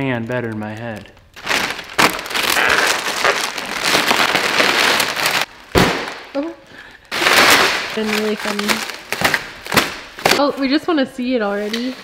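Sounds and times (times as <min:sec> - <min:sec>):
plastic wrap crackling and tearing: 0:00.0 - 0:10.8.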